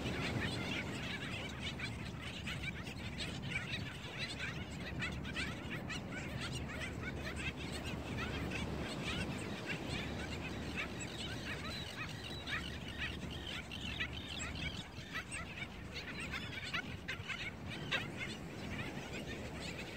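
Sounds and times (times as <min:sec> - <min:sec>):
seabird colony calling: 0:00.0 - 0:19.9.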